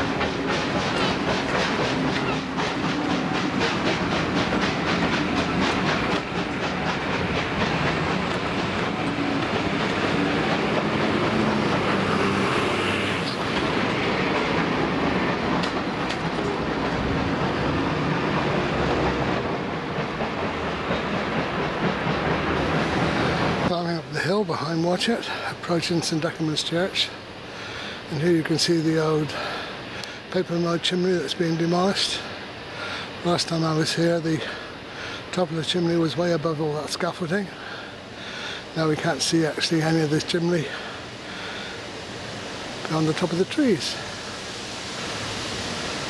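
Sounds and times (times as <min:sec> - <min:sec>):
train wheels clicking: 0:00.0 - 0:41.8
train rumble: 0:00.0 - 0:46.0.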